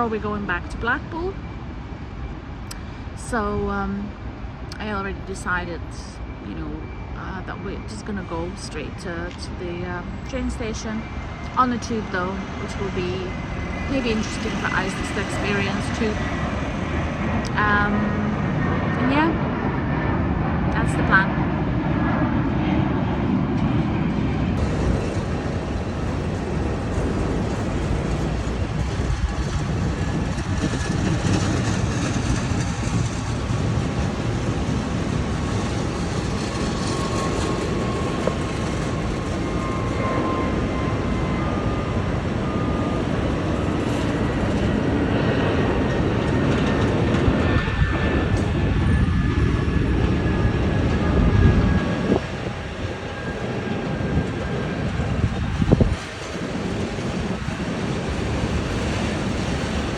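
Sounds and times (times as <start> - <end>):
jet engine whine: 0.0 - 59.9
jet engines rumbling: 0.0 - 59.9.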